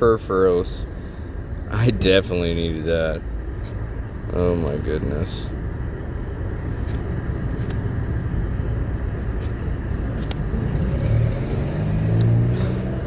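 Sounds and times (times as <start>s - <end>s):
car engine running: 0.8s - 13.0s.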